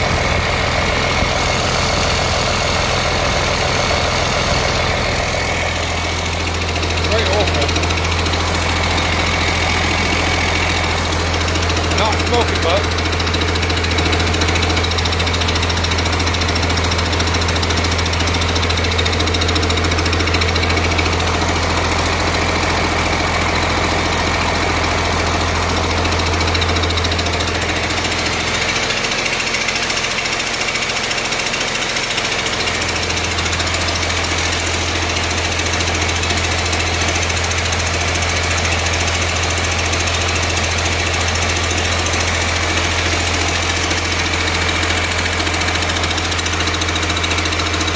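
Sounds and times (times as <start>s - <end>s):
air compressor running loudly: 0.0s - 47.9s
diesel engine clattering: 0.0s - 47.9s.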